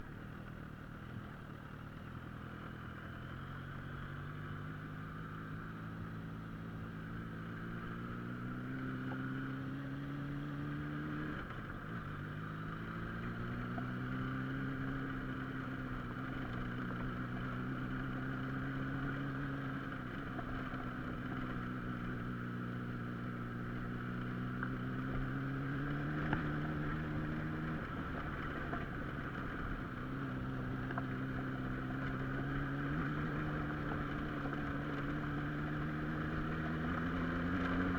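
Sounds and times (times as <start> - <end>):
road and wind noise: 0.0 - 37.9
vehicle engine accelerating: 2.0 - 37.9.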